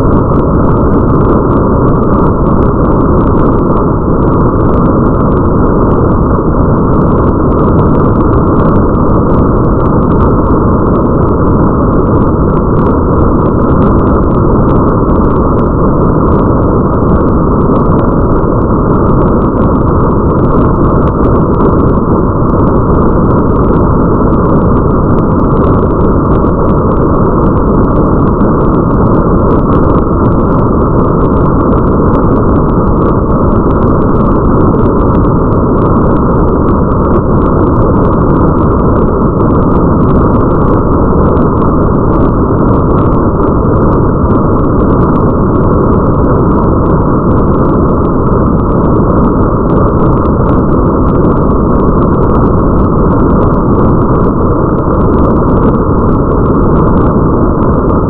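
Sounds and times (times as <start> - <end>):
faint crackling of raindrops: 0.0 - 58.0
muffled rain rumble: 0.0 - 58.0.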